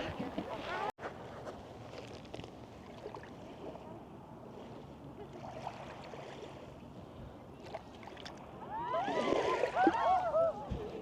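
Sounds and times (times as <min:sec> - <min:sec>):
lake waves lapping at shore: 0:01.7 - 0:11.0
faint water splashes: 0:01.8 - 0:11.0.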